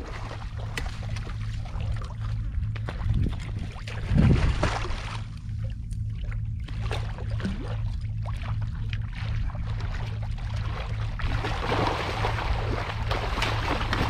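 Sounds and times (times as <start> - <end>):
steady low rumble: 0.0 - 14.0
water splashing against inflatable boat: 0.0 - 14.0.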